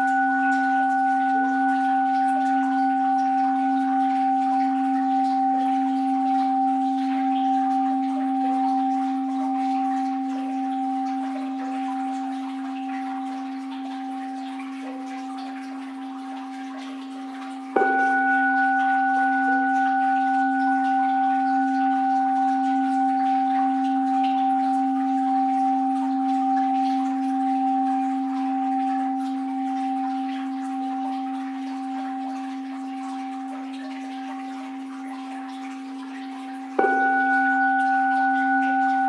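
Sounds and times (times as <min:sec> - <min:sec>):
bowl bell ringing: 0:00.0 - 0:39.0.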